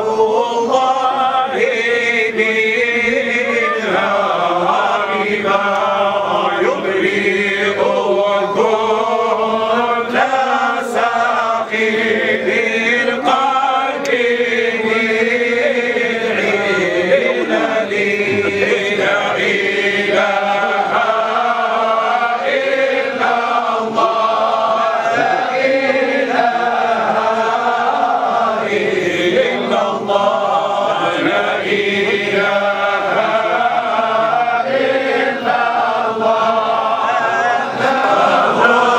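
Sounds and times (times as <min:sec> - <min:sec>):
men chanting together: 0:00.0 - 0:38.9.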